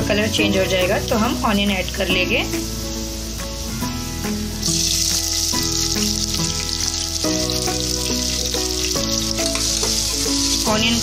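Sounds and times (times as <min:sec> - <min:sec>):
background music: 0:00.0 - 0:11.0
hot oil sizzling: 0:00.0 - 0:11.0.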